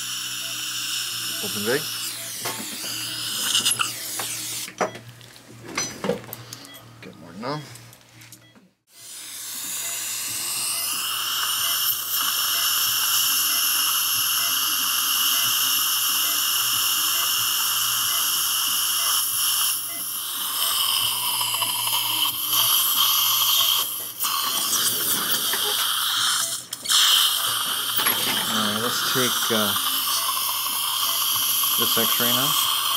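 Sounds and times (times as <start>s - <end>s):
dental drill whine: 0.0s - 4.7s, 8.9s - 32.9s.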